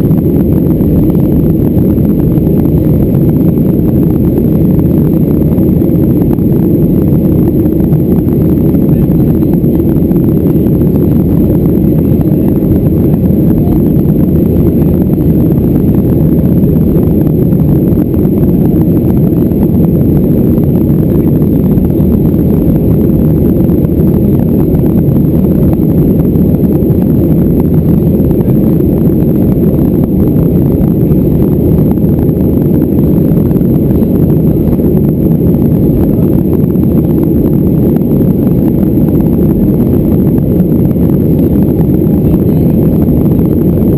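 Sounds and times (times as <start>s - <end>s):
airplane cabin engine roar: 0.0s - 43.9s.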